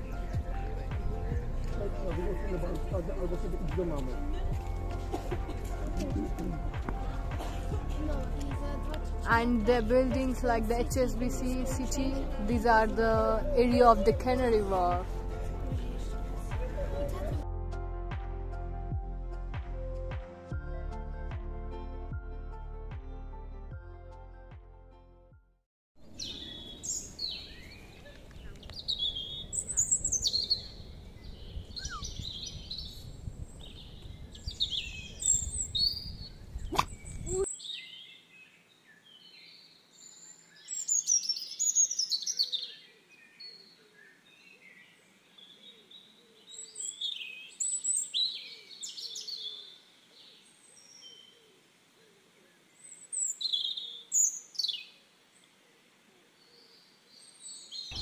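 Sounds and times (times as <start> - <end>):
songbirds singing and chirping: 0.0 - 17.4, 26.0 - 58.0.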